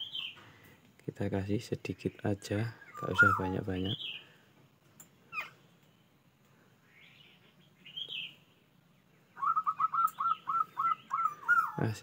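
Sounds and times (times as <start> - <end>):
bird chirping: 0.0 - 0.8, 1.8 - 12.0.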